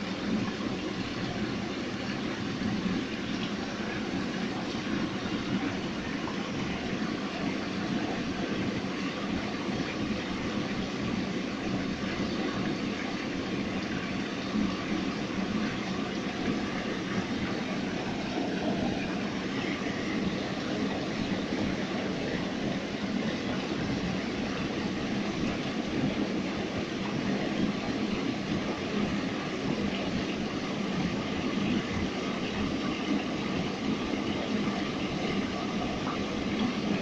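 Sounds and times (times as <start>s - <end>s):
water rushing through trough: 0.0s - 37.0s.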